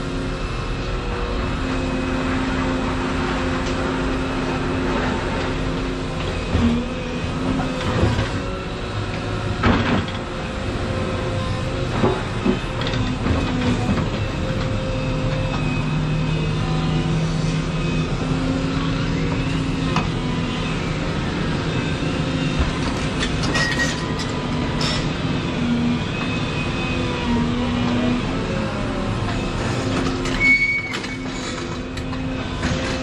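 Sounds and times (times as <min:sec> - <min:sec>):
excavator engine and hydraulics: 0:00.0 - 0:33.0.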